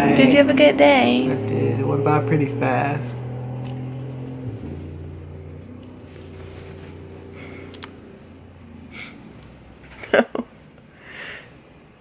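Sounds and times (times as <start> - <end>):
low drone of held tones: 0.0 - 10.0.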